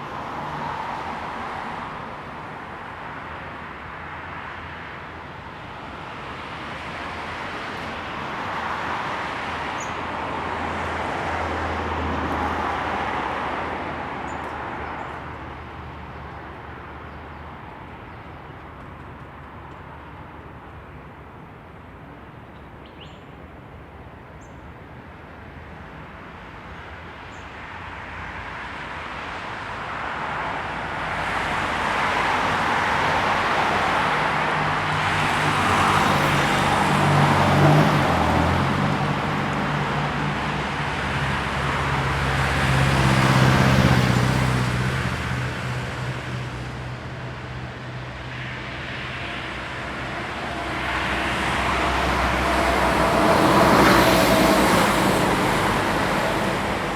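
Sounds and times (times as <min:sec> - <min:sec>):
cars passing by: 0:00.0 - 0:56.9.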